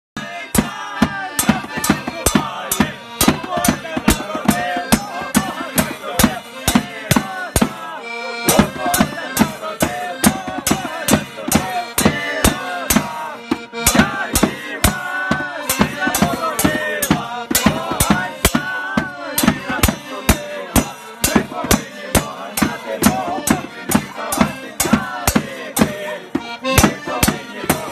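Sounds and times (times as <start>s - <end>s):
steady drum beat: 0.2s - 27.9s.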